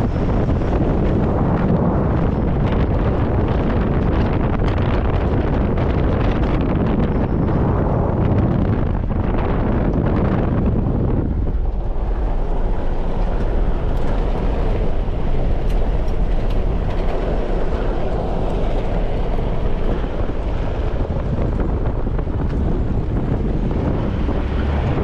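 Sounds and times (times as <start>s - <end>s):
low rumble: 0.0s - 25.0s
wind buffeting microphone: 0.0s - 25.0s.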